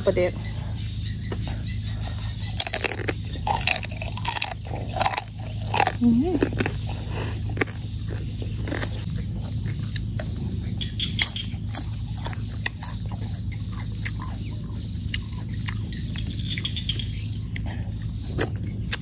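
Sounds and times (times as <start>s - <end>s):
pulsing insect trill: 0.0s - 19.0s
steady low rumble: 0.0s - 19.0s
eating crunches and clicks: 2.2s - 19.0s.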